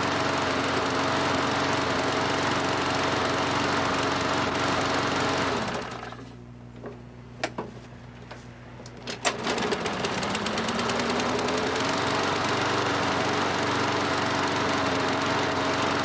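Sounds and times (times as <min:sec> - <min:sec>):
lawn mower engine running: 0:00.0 - 0:06.3, 0:09.0 - 0:16.0.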